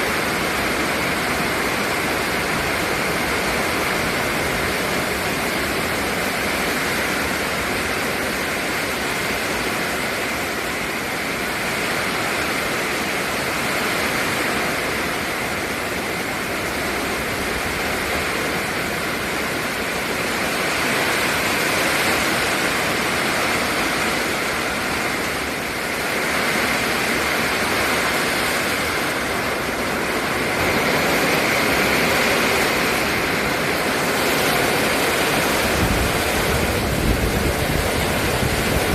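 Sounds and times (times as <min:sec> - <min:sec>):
heavy rain and wind: 0:00.0 - 0:38.9.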